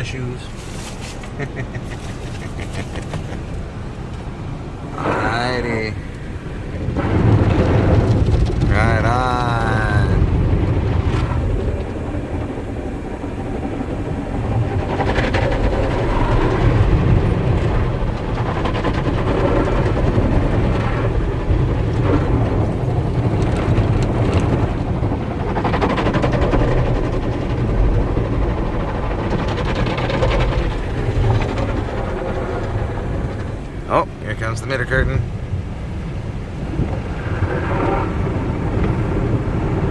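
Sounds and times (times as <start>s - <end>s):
low rumble: 0.0s - 39.9s
water spraying on car: 0.0s - 39.9s.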